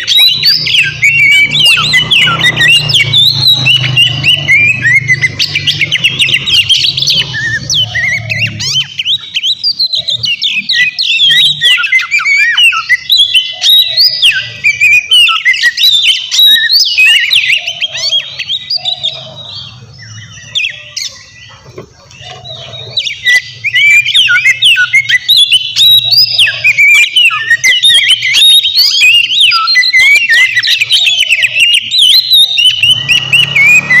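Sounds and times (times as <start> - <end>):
bird singing whistles and trills: 0.0 - 34.0.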